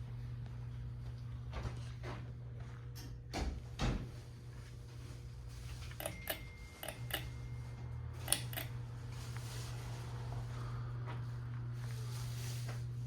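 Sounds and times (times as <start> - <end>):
ceiling fan motor buzz: 0.0 - 13.0.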